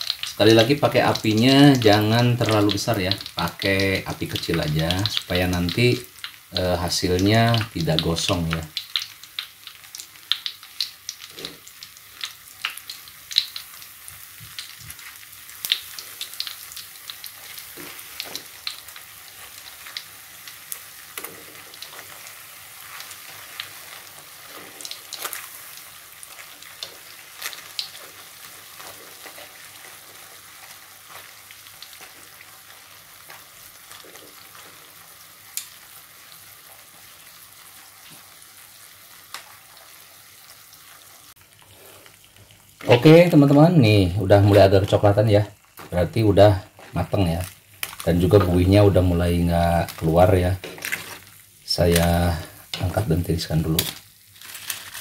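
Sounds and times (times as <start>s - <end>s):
frying oil sizzling and popping: 0.0s - 55.0s.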